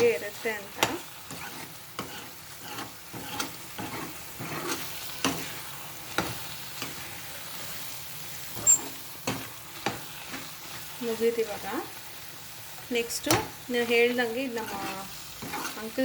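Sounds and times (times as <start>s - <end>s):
masala sizzling in oil: 0.0s - 16.0s
spoon scraping a pan: 0.0s - 16.0s.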